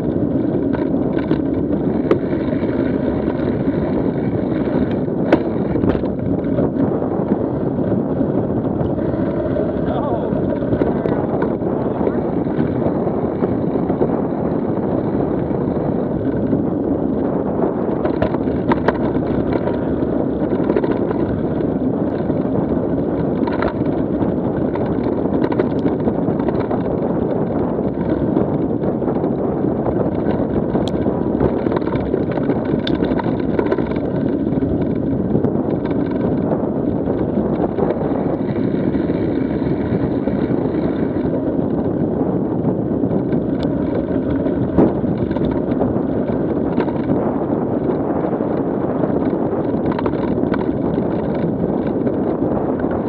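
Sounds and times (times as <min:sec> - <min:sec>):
bike tyres rolling on dirt: 0:00.0 - 0:53.0
faint clicks and rattles: 0:00.0 - 0:53.0
wind rumble on microphone: 0:00.0 - 0:53.0.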